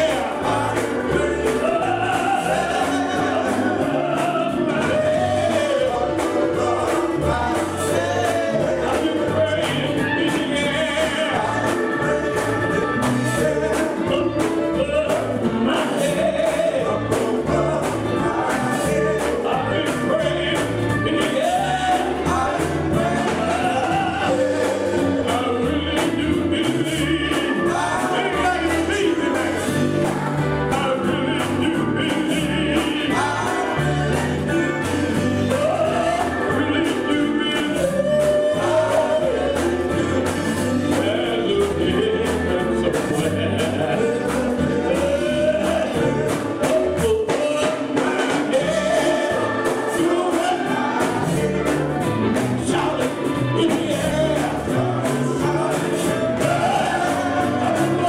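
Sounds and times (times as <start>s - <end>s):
live band with steady beat: 0.0s - 58.0s
male quartet singing in harmony: 0.0s - 58.0s.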